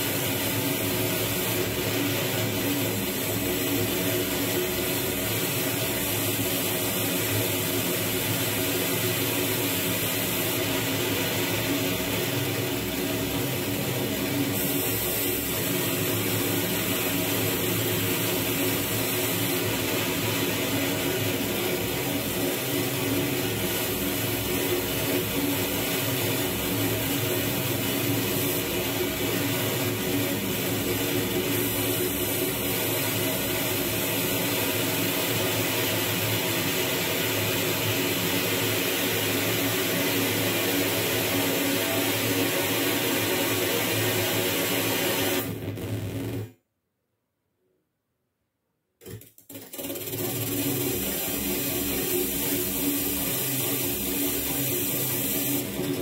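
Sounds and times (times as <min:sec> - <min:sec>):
electronic hissing drone: 0:00.0 - 0:46.5, 0:49.8 - 0:56.0.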